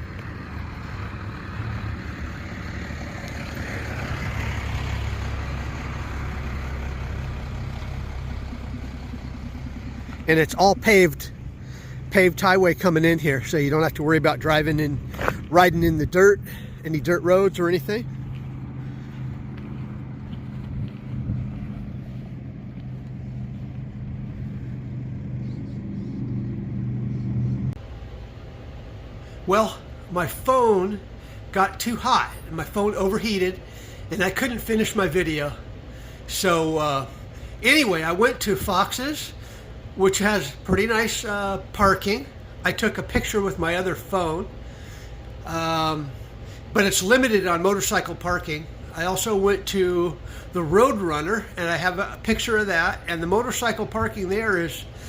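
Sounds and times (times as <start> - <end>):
road noise: 0.0 - 55.0
vehicle engine rumble: 0.0 - 55.0.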